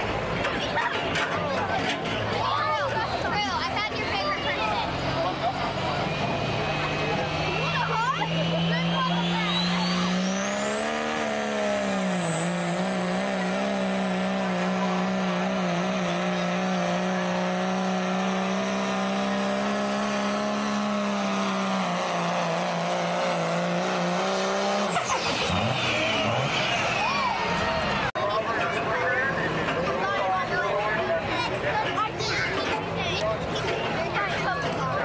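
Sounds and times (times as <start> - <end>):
diesel truck engine at high revs: 0.0 - 35.0.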